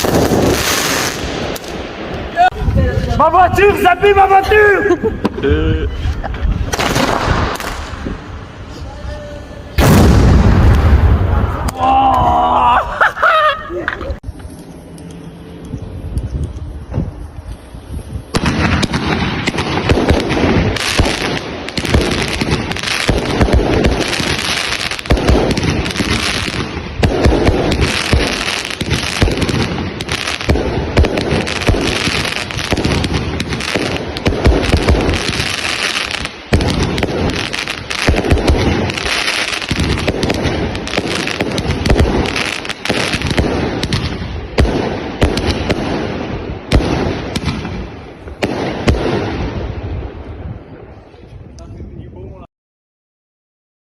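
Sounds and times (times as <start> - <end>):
fireworks crackling and banging: 0.0 - 11.8, 13.8 - 51.6.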